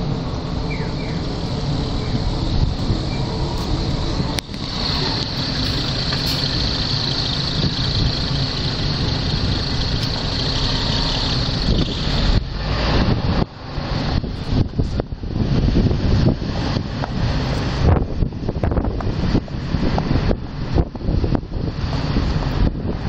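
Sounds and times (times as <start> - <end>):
rumble of traffic: 0.0 - 23.0
wind gusts on microphone: 0.0 - 23.0.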